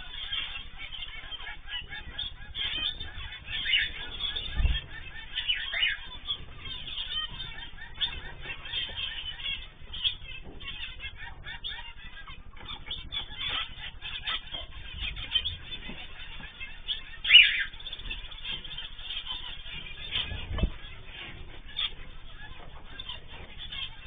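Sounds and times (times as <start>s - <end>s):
finches honking calls: 0.0s - 24.0s.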